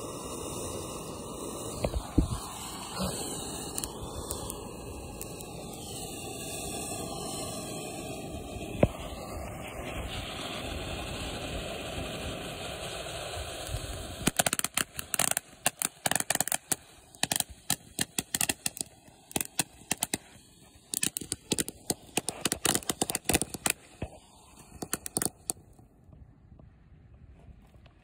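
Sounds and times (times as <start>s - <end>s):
firework crackling pops: 0.0s - 25.8s
firework fountain hissing: 0.0s - 25.8s.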